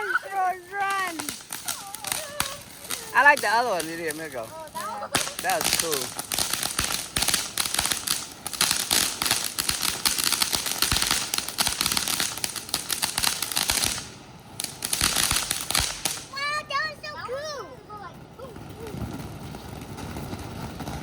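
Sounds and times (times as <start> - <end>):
firework crackling: 0.0 - 21.0.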